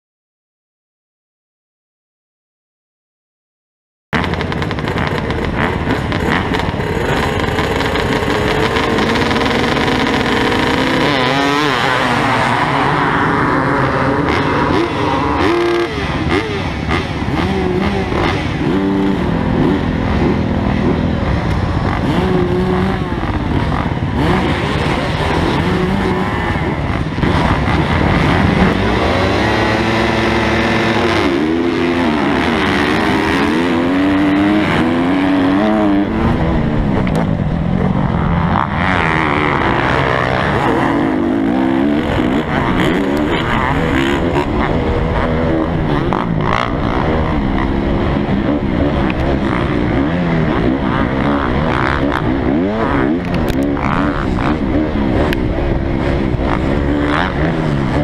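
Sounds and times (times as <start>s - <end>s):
dirt bike engine revving: 4.2s - 58.0s
other dirt bikes running: 4.2s - 58.0s.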